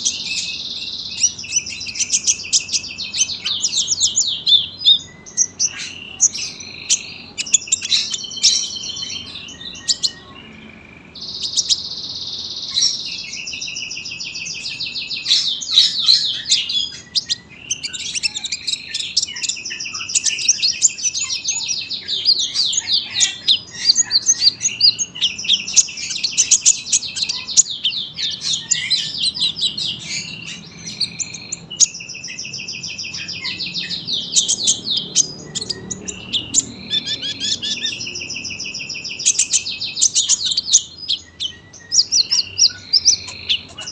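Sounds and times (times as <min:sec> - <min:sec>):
bird singing rapid trills: 0:00.0 - 0:43.9.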